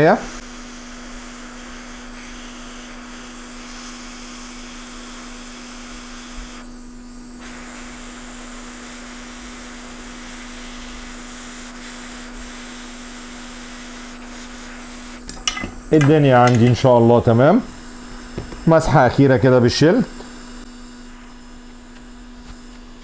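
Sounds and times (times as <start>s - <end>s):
hot air station hissing: 0.0s - 23.0s.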